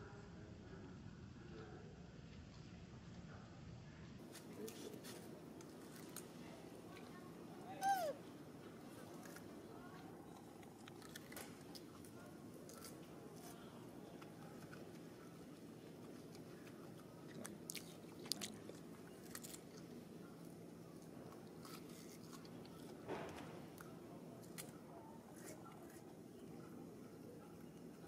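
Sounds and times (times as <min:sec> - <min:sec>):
low background noise: 0:00.0 - 0:28.0
monkey chewing cucumber: 0:04.3 - 0:07.2, 0:07.8 - 0:28.0.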